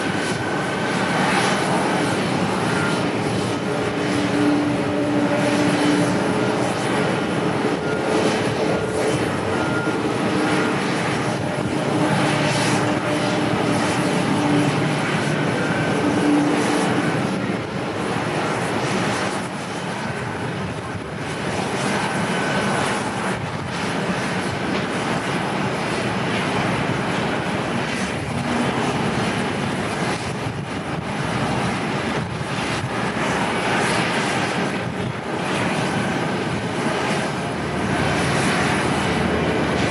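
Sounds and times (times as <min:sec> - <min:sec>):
airliner engines rushing: 0:00.0 - 0:39.9.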